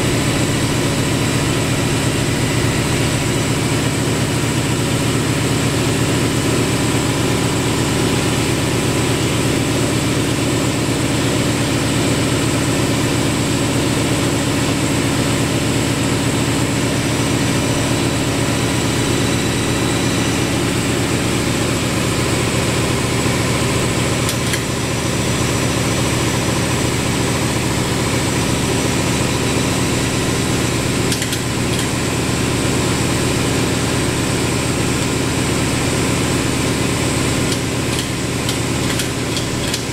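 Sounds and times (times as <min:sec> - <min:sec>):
vacuum pump drone: 0:00.0 - 0:39.9.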